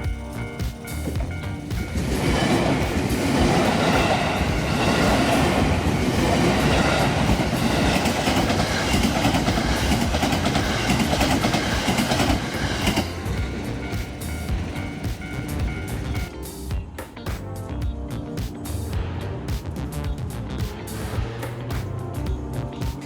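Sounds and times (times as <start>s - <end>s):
train running on track: 0.0s - 17.0s, 20.2s - 23.0s.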